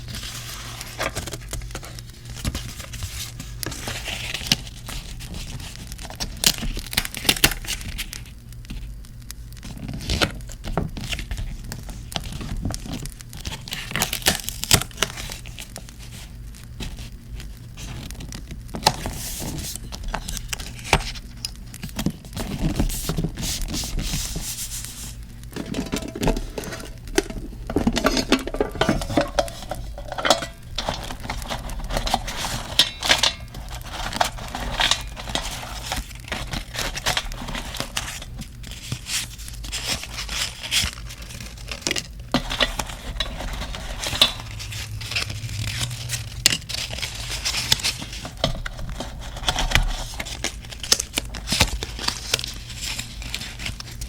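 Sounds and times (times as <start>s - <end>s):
paper rustling and tearing: 0.0s - 8.8s, 9.6s - 27.8s, 28.4s - 54.0s.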